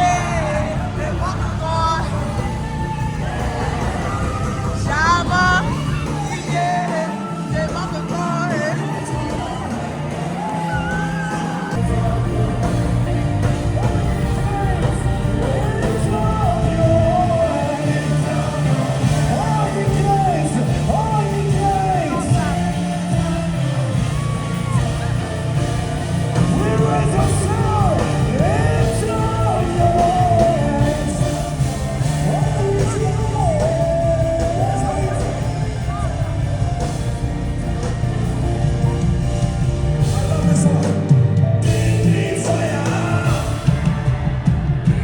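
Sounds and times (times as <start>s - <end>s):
steady low bass: 0.0s - 6.7s, 11.8s - 45.0s
person singing: 0.0s - 45.0s.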